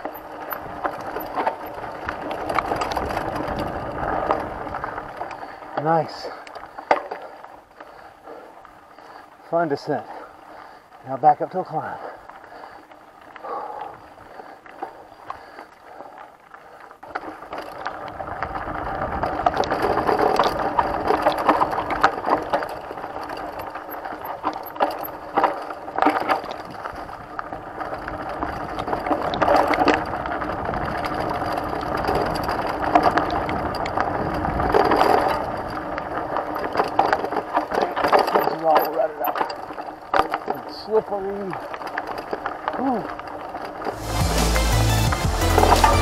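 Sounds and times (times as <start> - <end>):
bike rattling over roots: 0.0 - 46.0
mountain bike tyre noise: 0.0 - 46.0.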